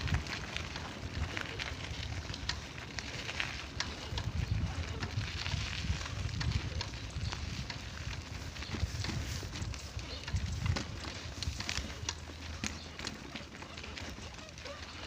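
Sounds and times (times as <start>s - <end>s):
wind buffeting microphone: 0.0s - 13.0s
footsteps through grass: 0.0s - 15.0s.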